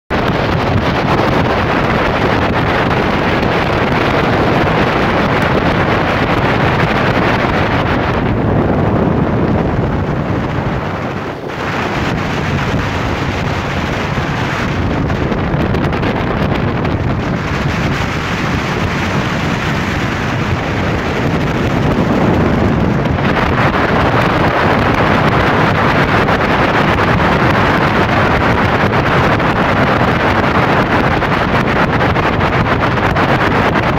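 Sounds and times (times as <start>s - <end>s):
speedboat motor and water rush: 0.1s - 33.9s
wind buffeting microphone: 0.1s - 33.9s.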